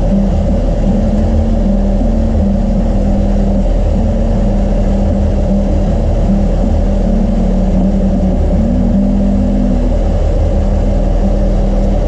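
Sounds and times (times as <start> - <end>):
boat engine low drone: 0.0 - 12.0.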